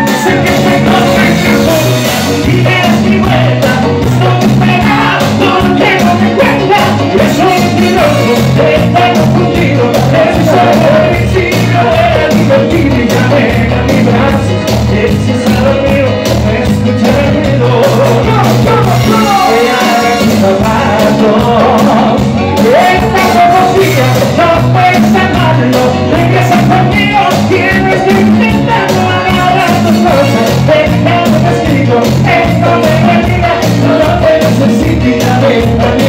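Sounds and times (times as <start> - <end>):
latin band playing: 0.0 - 36.0
lead singer singing: 0.0 - 36.0.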